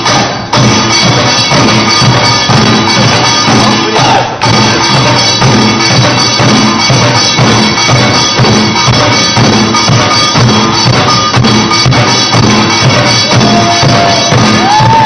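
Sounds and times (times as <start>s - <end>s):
barrel drums beaten hard: 0.0s - 15.0s
ringing metallic tone: 0.0s - 15.0s.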